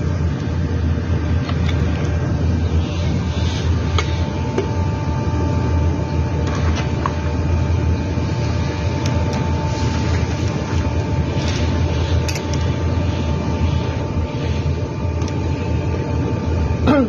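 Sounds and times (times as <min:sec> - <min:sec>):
loud machine hum: 0:00.0 - 0:17.0.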